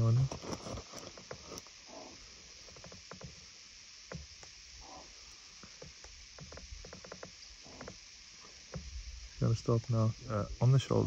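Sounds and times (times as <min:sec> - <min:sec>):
faint outdoor hiss: 0:00.0 - 0:11.0.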